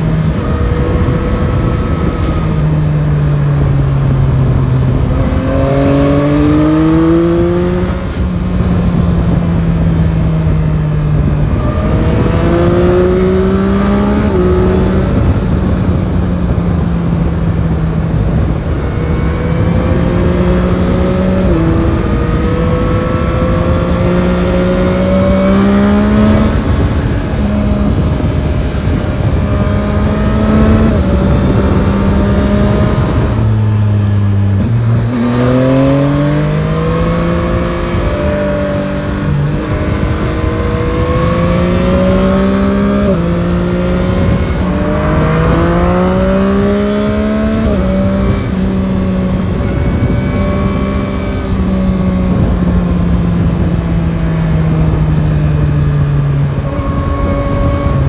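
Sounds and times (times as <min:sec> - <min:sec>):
motorcycle engine accelerating: 0:00.0 - 0:58.0
wind rush: 0:00.0 - 0:58.0.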